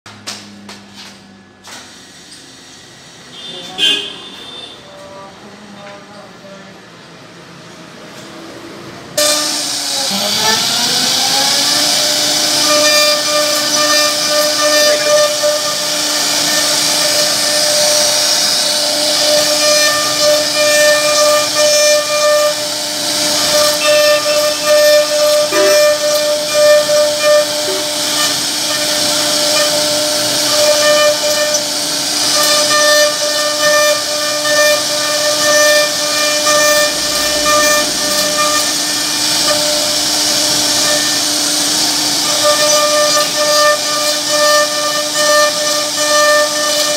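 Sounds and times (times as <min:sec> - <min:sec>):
router spindle whine: 0:09.2 - 0:46.9.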